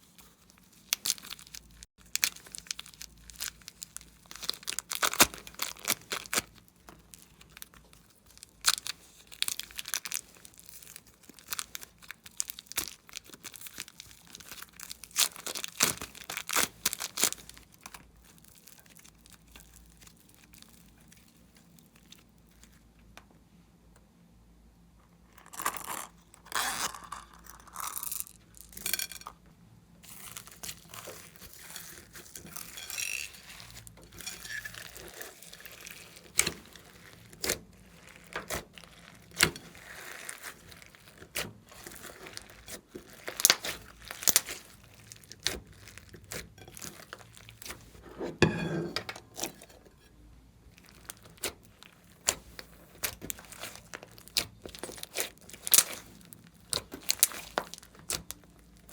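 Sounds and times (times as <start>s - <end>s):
slime popping and crackling: 0.8s - 22.3s, 30.0s - 48.0s, 50.7s - 58.9s.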